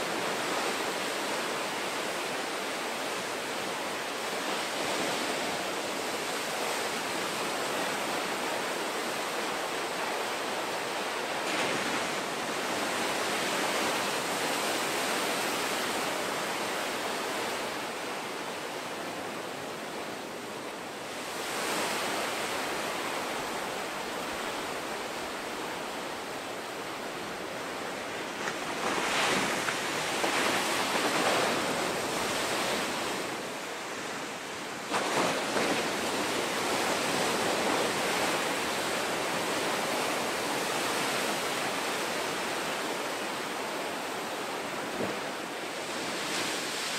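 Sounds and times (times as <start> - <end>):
ocean waves crashing: 0.0 - 46.9.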